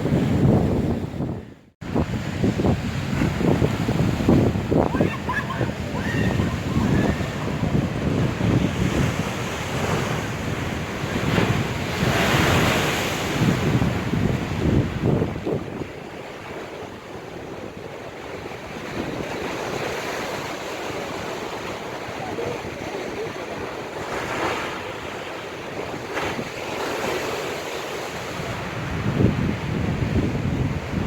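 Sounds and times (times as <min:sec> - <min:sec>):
wind buffeting microphone: 0:00.0 - 0:26.9, 0:28.2 - 0:31.0
waves breaking on shore: 0:00.0 - 0:31.0.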